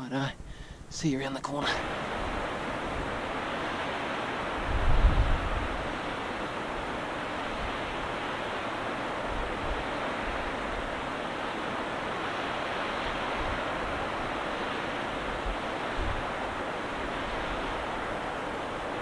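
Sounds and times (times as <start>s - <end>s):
wind rushing on microphone: 1.6s - 19.0s.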